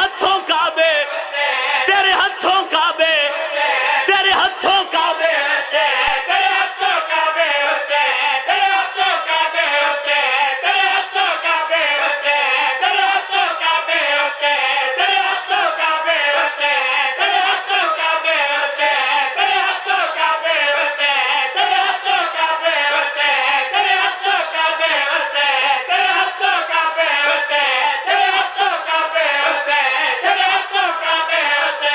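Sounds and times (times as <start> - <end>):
men chanting through a pa system: 0.0 - 31.9.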